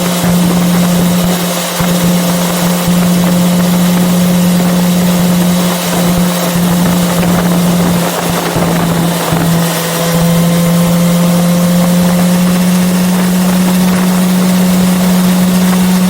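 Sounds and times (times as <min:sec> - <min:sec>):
motorcycle engine at steady speed: 0:00.0 - 0:16.0
wind noise: 0:00.0 - 0:16.0.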